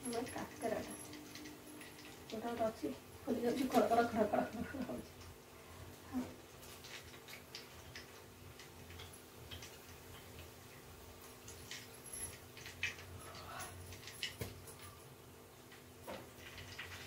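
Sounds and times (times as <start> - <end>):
fritters frying in hot oil: 0.0 - 14.6, 15.2 - 17.0
oil crackling and popping: 0.1 - 13.2, 13.8 - 14.6, 15.7 - 17.0.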